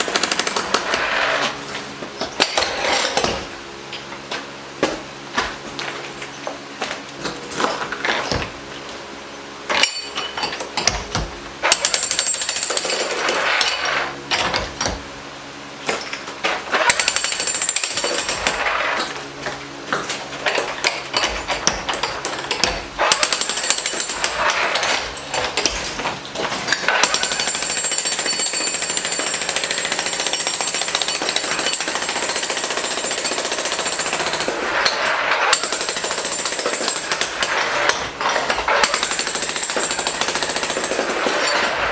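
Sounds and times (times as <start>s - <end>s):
jackhammer breaking concrete: 0.0s - 3.6s, 9.7s - 15.1s, 15.8s - 41.9s.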